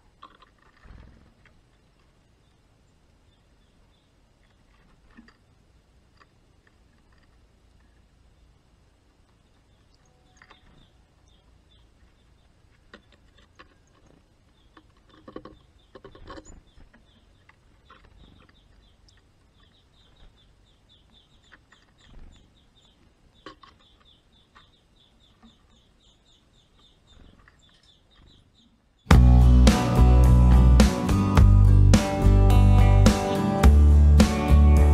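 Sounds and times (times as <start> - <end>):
birds tapping and rustling: 0.0 - 2.7, 3.4 - 29.3
songbirds chirping: 0.0 - 34.9.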